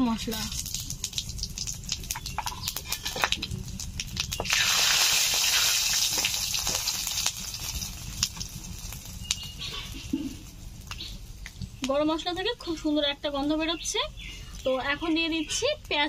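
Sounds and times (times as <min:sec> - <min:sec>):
hissing sizzle of hot oil: 0:00.0 - 0:16.0
spices crackling and popping in oil: 0:00.0 - 0:16.0.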